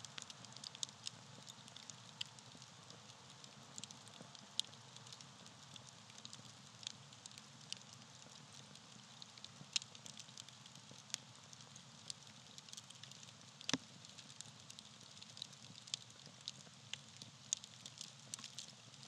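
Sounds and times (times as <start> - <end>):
campfire crackling and popping: 0.1 - 19.0.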